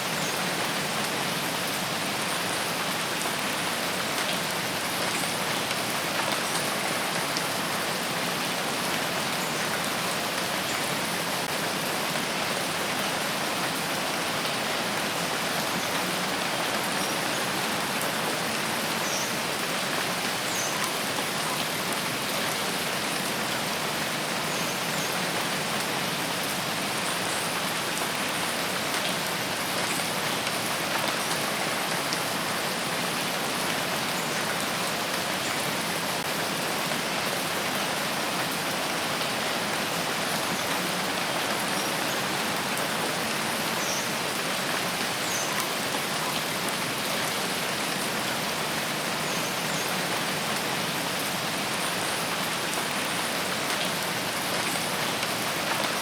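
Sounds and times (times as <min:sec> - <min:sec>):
rain falling in forest: 0:00.0 - 0:56.0.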